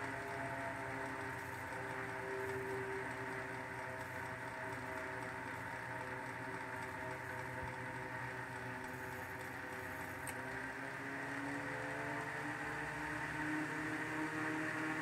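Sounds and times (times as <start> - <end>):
desk fan motor hum: 0.0 - 15.0.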